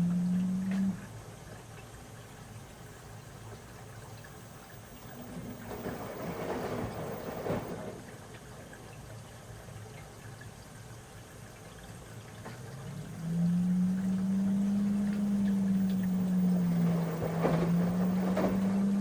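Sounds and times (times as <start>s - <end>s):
washing machine rumbling: 0.0s - 10.3s, 11.0s - 19.0s
rush of water: 0.0s - 19.0s.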